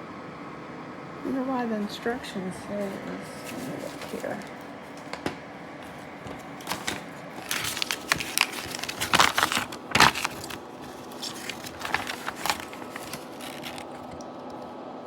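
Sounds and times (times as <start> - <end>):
paper rustling and crinkling: 2.2 - 14.7.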